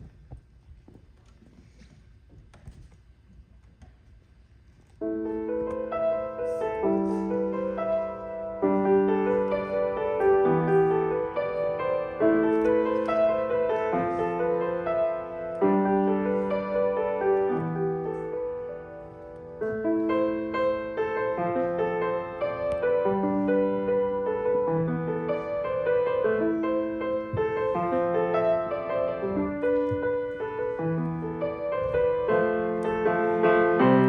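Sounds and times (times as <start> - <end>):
piano playing slow chords: 5.0 - 34.0.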